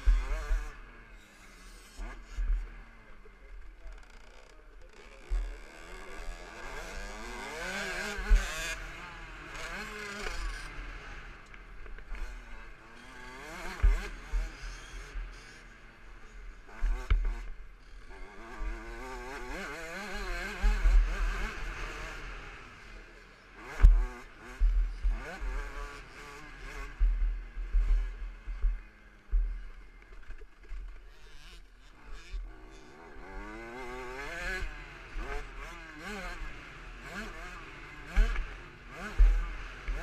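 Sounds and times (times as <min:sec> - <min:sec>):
two-stroke engine revving: 0:00.0 - 0:40.0.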